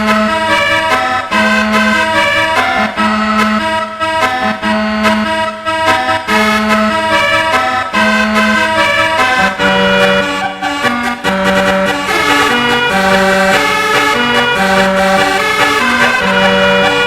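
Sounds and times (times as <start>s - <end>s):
reedy accordion-like melody: 0.0s - 17.0s.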